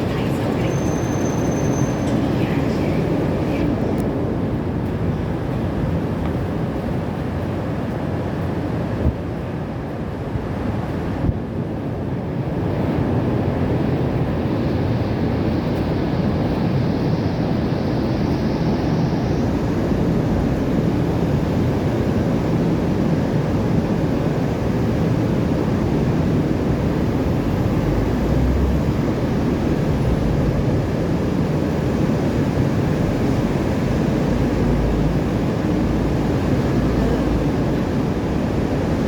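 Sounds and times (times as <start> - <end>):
wind: 0.0 - 39.0.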